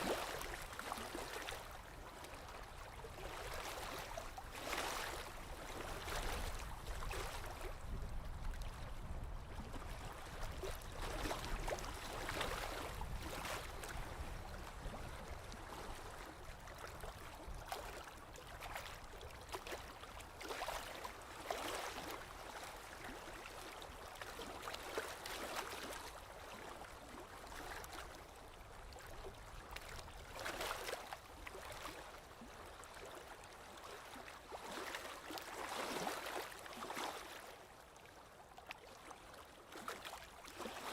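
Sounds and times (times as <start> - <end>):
small waves lapping shore: 0.0 - 40.9.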